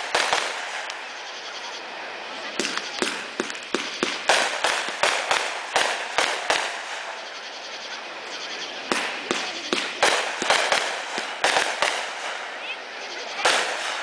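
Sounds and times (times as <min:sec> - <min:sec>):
firework bangs with hiss: 0:00.0 - 0:01.4, 0:02.3 - 0:07.5, 0:08.8 - 0:14.0.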